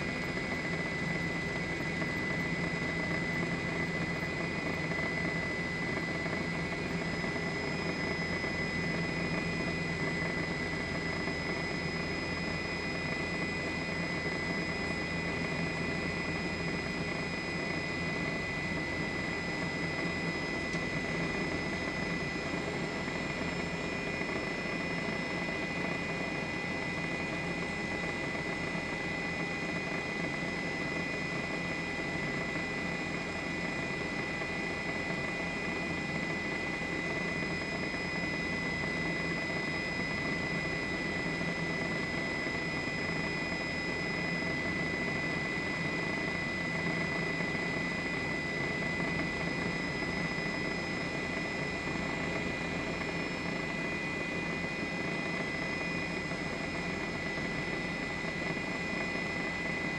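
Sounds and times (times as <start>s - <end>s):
helicopter engine and rotor noise: 0.0s - 59.9s.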